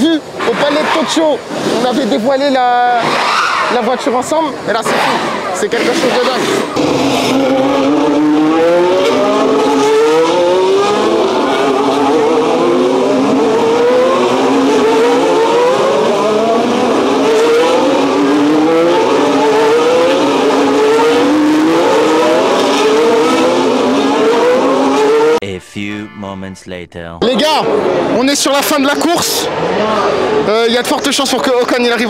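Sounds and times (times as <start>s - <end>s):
race car engines accelerating: 0.0s - 25.6s, 27.5s - 32.0s.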